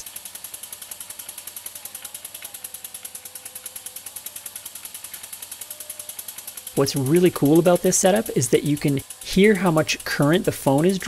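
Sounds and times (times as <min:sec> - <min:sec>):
model steam engine beating: 0:00.0 - 0:11.0.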